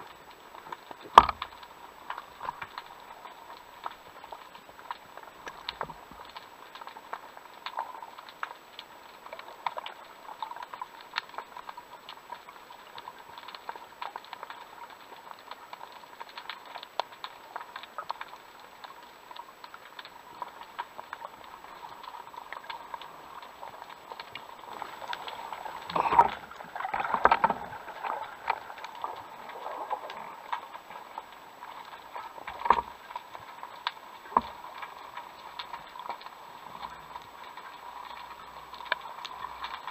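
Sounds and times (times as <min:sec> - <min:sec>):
underwater crackle of clicks: 0:00.0 - 0:39.9.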